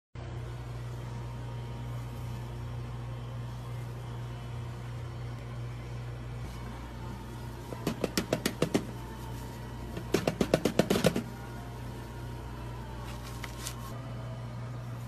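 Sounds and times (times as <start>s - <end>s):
steady low hum: 0.2s - 15.0s.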